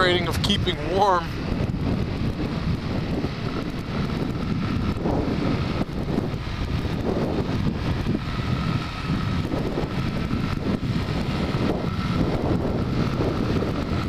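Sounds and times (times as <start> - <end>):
atv engine running: 0.0 - 14.0
wind buffeting microphone: 0.0 - 14.0.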